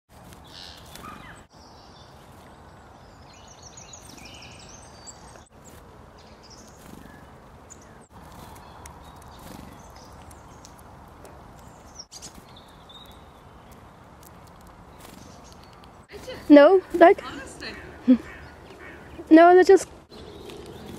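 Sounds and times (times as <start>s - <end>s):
outdoor background noise: 0.1s - 20.9s
songbirds chirping: 0.1s - 20.9s.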